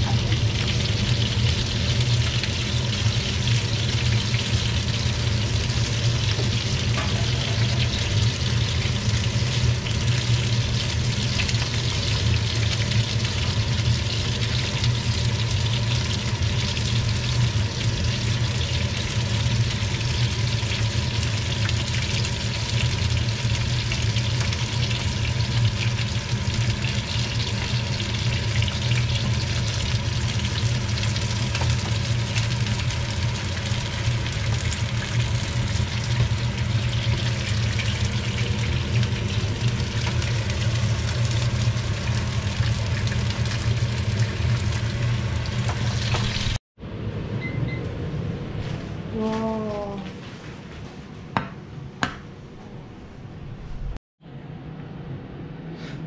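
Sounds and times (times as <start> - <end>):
prawns sizzling and crackling: 0.0 - 46.6.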